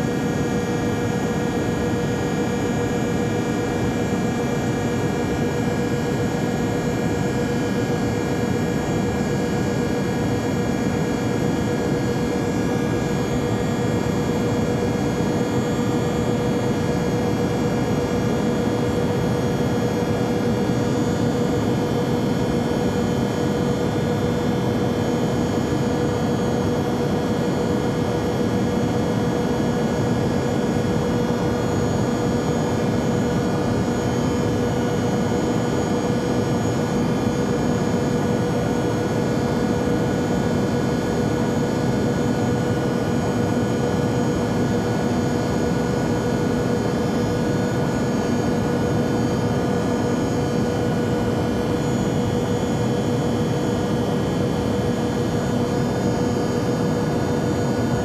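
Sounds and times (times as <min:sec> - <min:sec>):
jet cabin engine drone: 0:00.0 - 0:58.0.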